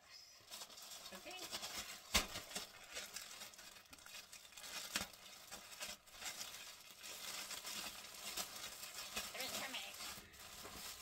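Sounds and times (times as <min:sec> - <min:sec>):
packaging crinkling: 0:00.4 - 0:11.0.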